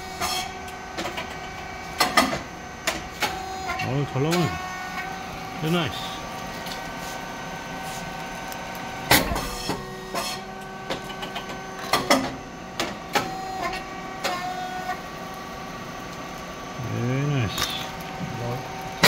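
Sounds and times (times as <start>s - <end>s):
machine motor hum: 0.0s - 19.0s.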